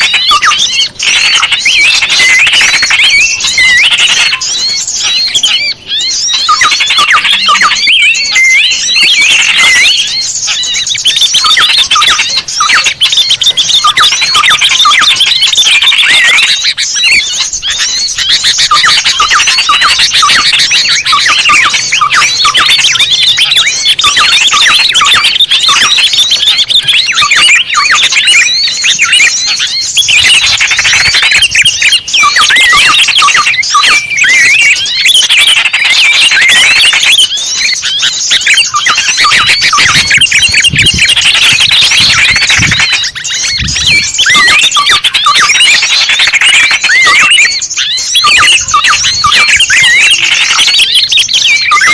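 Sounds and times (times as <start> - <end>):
songbirds chirping and twittering: 0.0 - 51.9.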